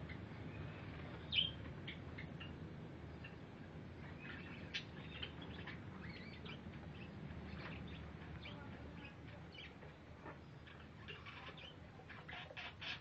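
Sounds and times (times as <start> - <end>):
low background rumble: 0.0 - 13.0
small bird chirping: 0.0 - 13.0.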